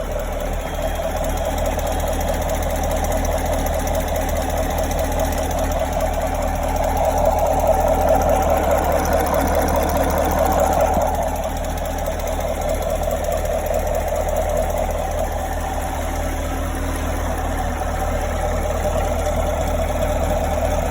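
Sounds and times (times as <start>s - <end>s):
car engine idling: 0.0s - 20.9s
fast even engine ticking: 0.0s - 20.9s.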